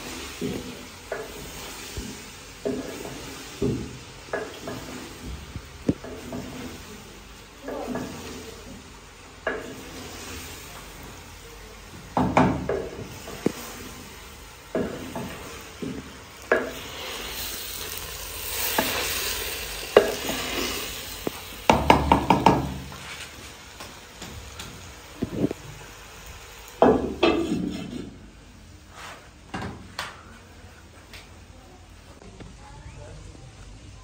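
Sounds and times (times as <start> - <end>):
vegetables sizzling: 0.0 - 29.5.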